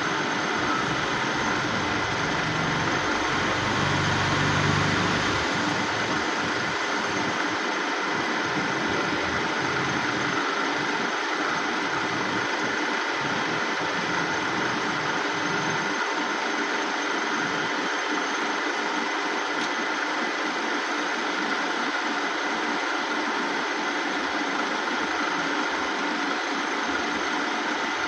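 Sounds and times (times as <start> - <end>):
milling machine whirring: 0.0 - 28.0.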